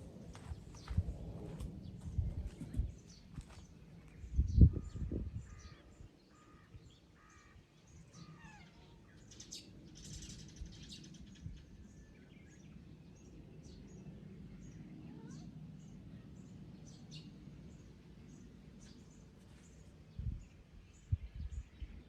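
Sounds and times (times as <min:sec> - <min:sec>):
low outdoor background: 0:00.0 - 0:22.0.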